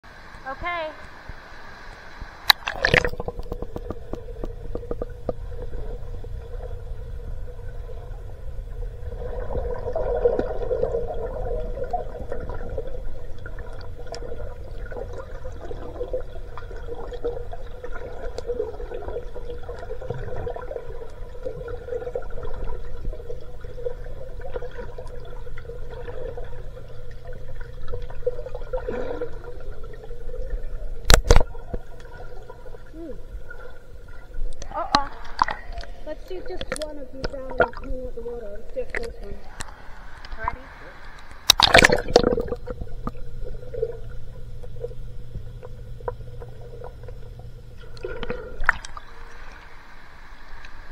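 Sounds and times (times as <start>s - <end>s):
water sloshing and gurgling: 1.0s - 50.9s.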